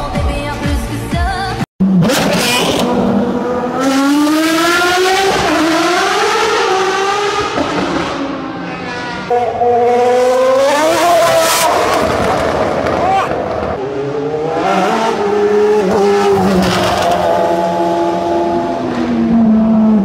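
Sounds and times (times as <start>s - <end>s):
racing car engines accelerating: 1.8s - 20.0s.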